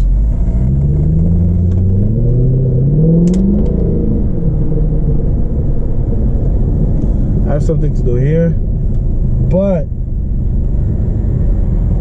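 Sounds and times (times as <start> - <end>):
car engine accelerating: 0.0 - 12.0
exhaust crack: 0.0 - 12.0.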